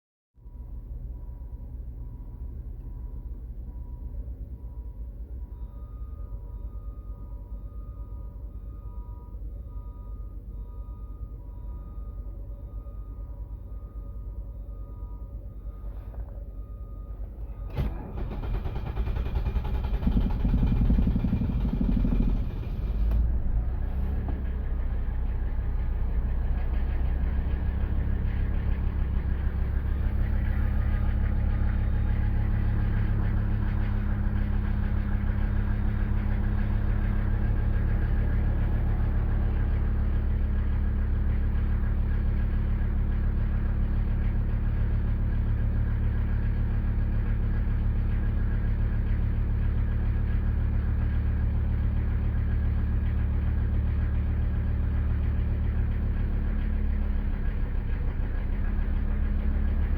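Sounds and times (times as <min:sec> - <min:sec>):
diesel engine idling: 0:00.5 - 0:59.9.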